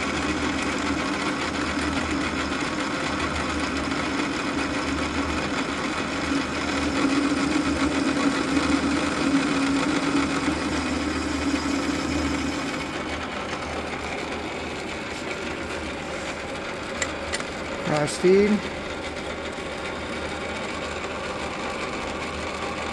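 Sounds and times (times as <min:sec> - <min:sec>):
lathe motor and gear whine: 0:00.0 - 0:22.9.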